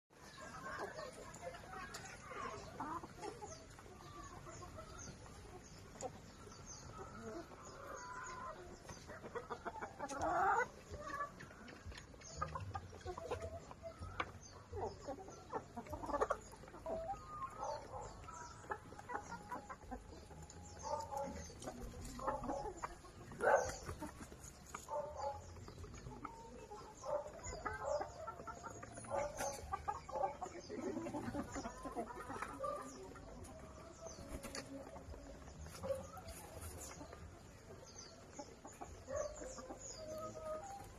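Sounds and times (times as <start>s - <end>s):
chickens clucking and calling: 0.1s - 40.9s.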